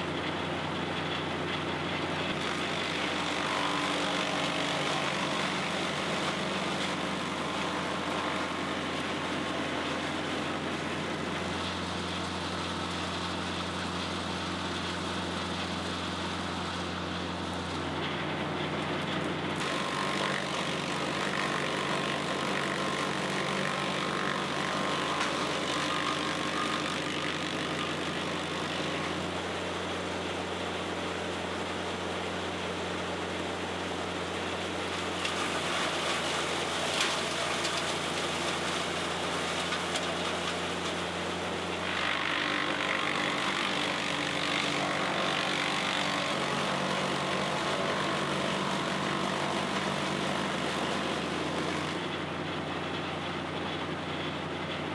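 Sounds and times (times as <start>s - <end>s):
brush chipper engine chipping: 0.0s - 54.9s.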